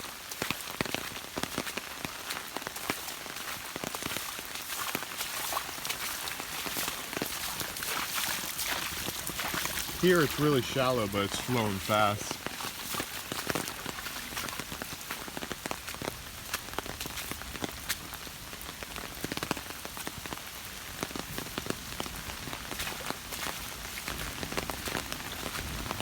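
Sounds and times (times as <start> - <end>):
raindrop hits near microphone: 0.0 - 26.0
steady rain hiss: 0.0 - 26.0.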